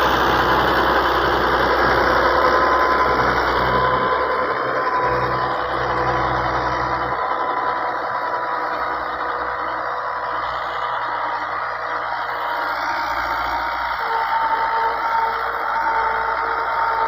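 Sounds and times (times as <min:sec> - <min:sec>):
constant high whine: 0:00.0 - 0:17.0
tractor diesel engine running: 0:00.0 - 0:17.0.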